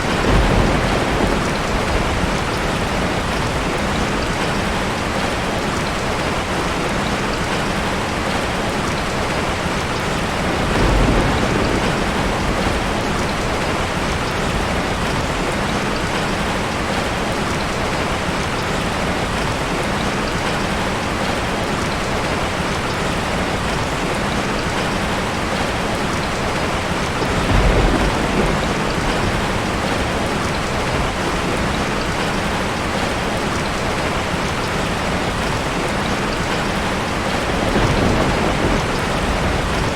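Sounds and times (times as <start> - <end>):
low rumble of thunder: 0.0 - 39.9
rain falling: 0.0 - 39.9.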